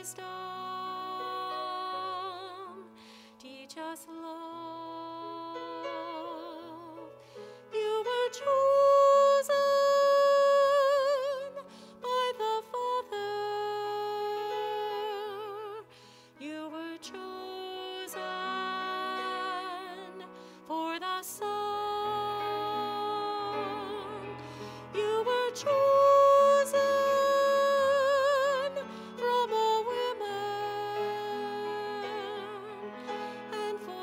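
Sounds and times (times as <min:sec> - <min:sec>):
woman singing with vibrato: 0:00.0 - 0:07.1, 0:07.7 - 0:34.0
grand piano accompaniment: 0:00.0 - 0:34.0.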